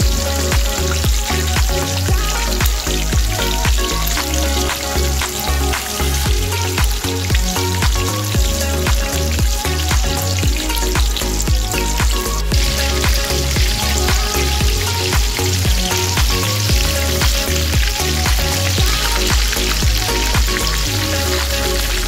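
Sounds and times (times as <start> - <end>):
background music with beat: 0.0 - 22.0.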